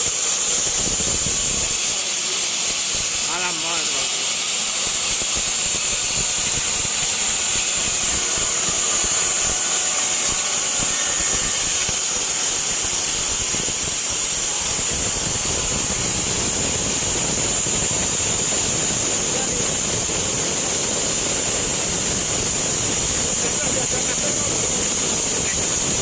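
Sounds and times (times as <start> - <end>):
band saw high-pitched hiss: 0.0 - 26.0.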